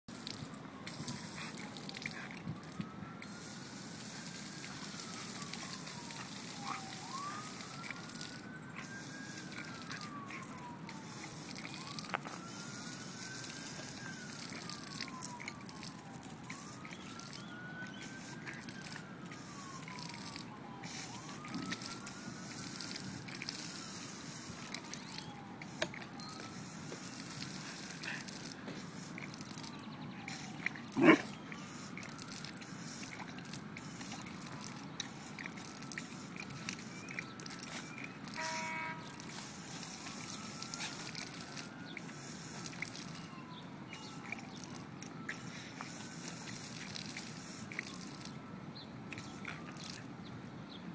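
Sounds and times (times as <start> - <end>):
faint siren wailing: 0.1 - 50.9.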